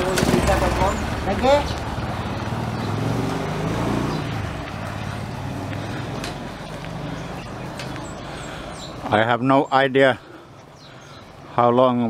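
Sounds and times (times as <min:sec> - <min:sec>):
engine humming: 0:00.0 - 0:11.6.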